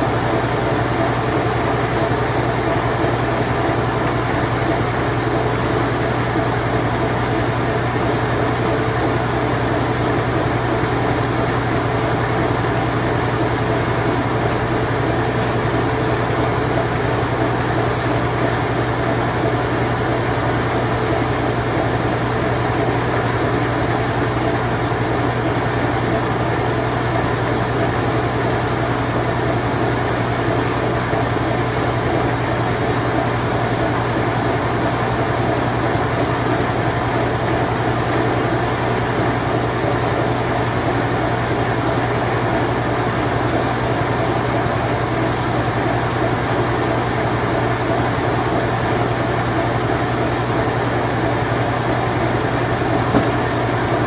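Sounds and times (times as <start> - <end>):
washing machine spin cycle: 0.0 - 54.0.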